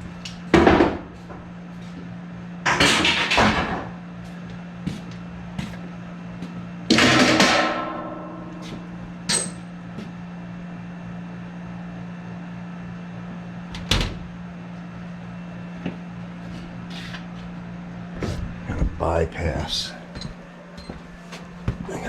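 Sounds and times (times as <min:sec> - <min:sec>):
low hum: 0:04.0 - 0:22.0.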